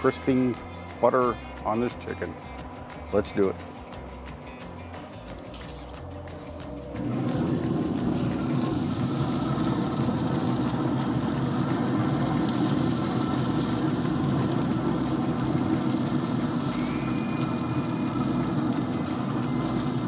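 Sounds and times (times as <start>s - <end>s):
grill fan humming: 0.0s - 20.0s.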